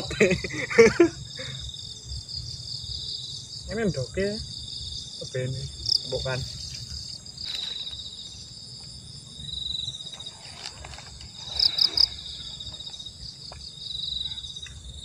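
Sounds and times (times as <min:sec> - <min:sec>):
insects chirping trill: 0:00.0 - 0:15.0.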